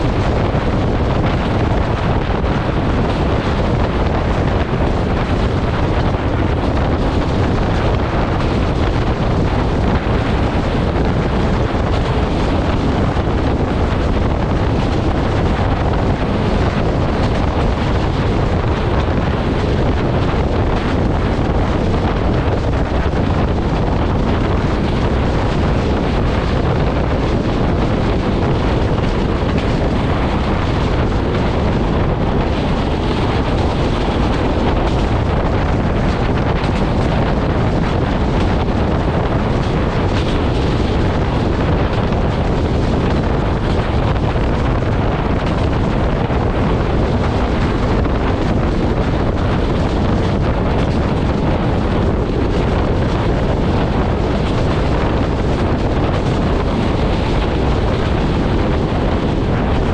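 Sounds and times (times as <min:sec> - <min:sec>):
train rumbling on track: 0:00.0 - 0:59.9
wind rushing over microphone: 0:00.0 - 0:59.9.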